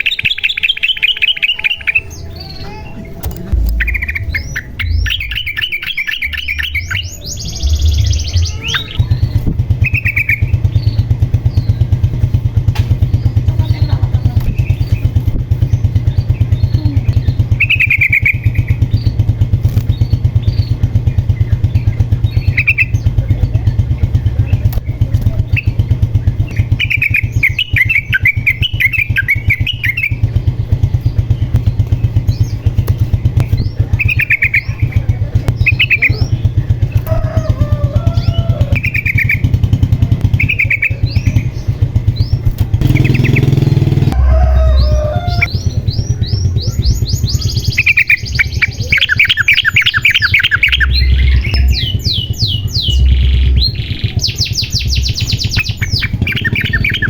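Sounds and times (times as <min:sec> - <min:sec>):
bird singing bubbly phrases: 0:00.0 - 0:12.4, 0:13.1 - 0:57.0
rapid low throbbing: 0:00.0 - 0:57.0.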